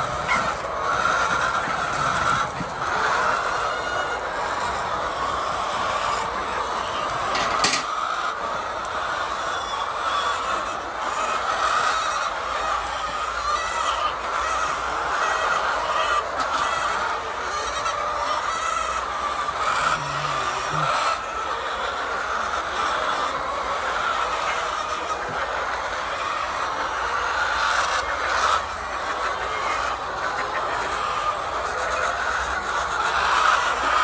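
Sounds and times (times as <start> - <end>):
hens clucking and calling: 0.0 - 34.0.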